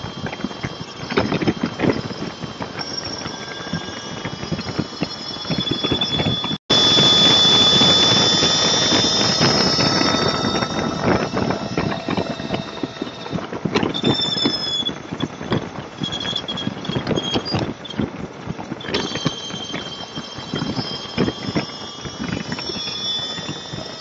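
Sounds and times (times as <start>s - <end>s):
thin high whistle: 0.0s - 18.1s, 18.7s - 24.0s.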